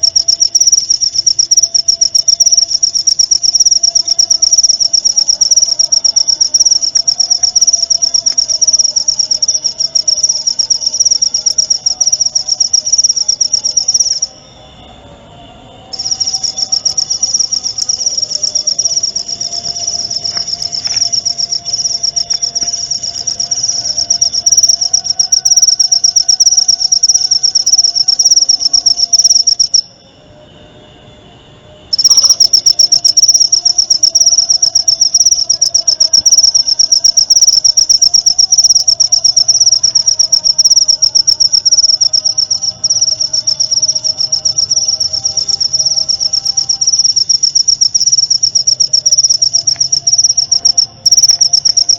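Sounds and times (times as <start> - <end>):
cricket chirping trill: 0.0 - 51.9.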